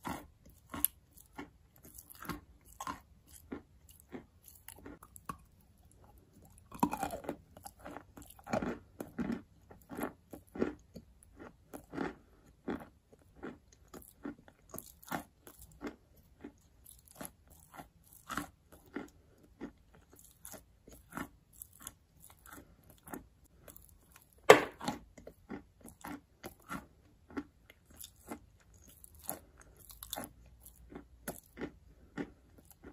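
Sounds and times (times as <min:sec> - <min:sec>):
dry crunchy chewing: 0:00.0 - 0:32.9.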